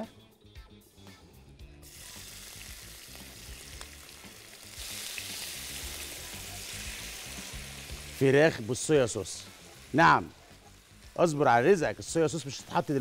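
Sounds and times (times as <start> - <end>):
chicken sizzling in hot oil: 1.8 - 13.0.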